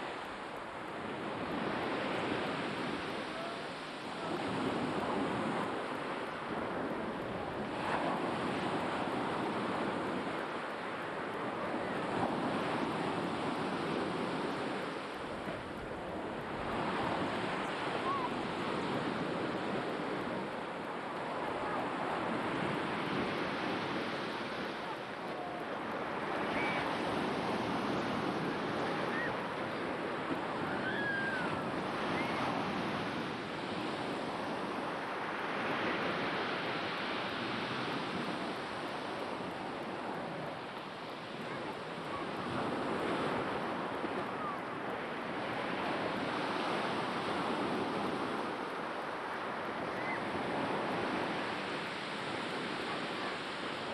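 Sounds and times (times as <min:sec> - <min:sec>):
surf washing on shore: 0:00.0 - 0:53.9.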